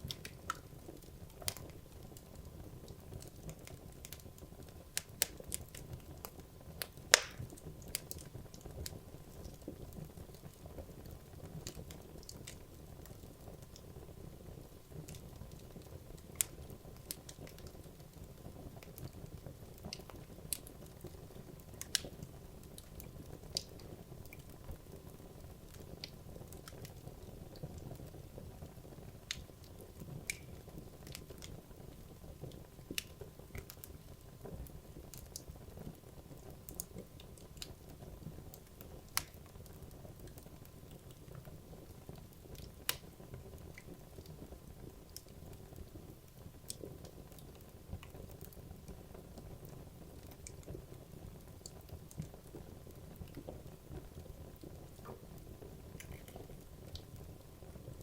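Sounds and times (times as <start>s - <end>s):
wood crackling and popping: 0.0s - 58.0s.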